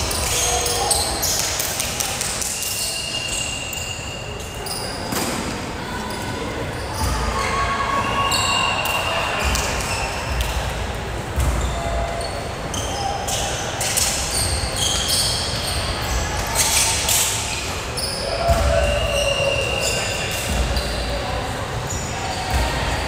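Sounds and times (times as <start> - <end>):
players' voices in a large hall: 0.0 - 23.0
sneakers squeaking: 0.0 - 23.0.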